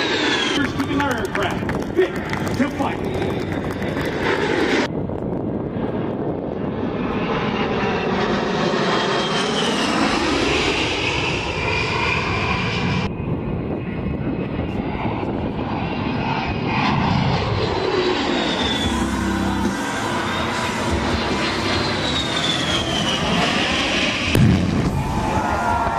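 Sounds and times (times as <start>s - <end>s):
jet flying past: 0.0s - 25.9s.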